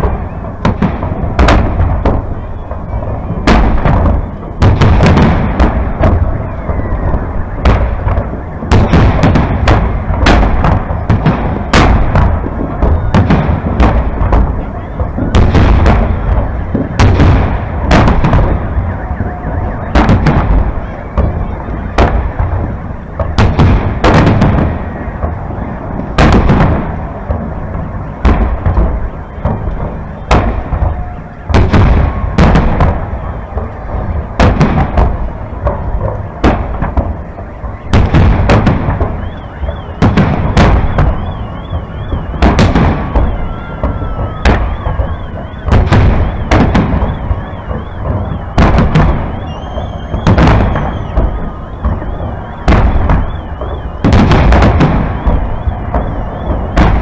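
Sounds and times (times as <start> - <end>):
fireworks shells bursting: 0.0 - 57.0.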